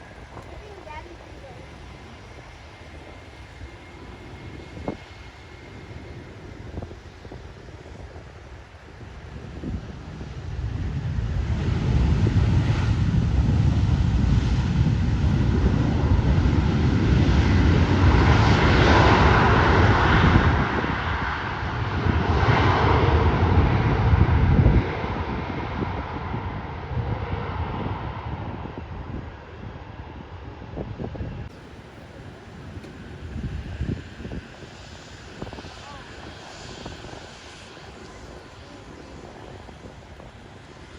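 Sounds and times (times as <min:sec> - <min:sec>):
airliner engines passing: 0:00.0 - 0:40.9.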